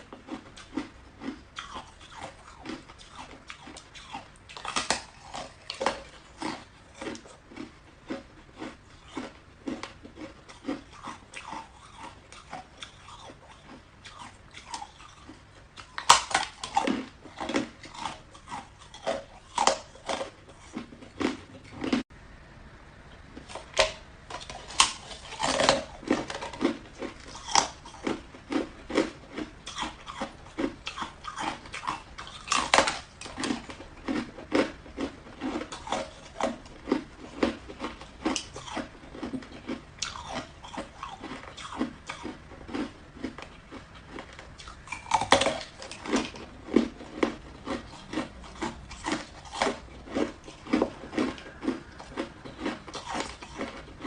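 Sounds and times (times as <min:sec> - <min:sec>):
ice being chewed: 0:00.0 - 0:22.0, 0:23.4 - 0:54.0.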